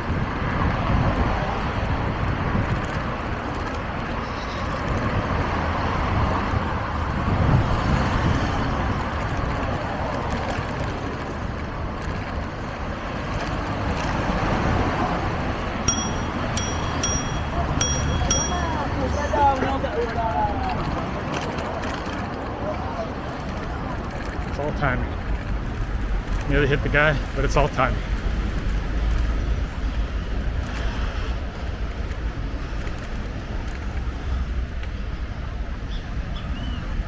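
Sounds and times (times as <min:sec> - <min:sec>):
passing cars and road noise: 0:00.0 - 0:37.0.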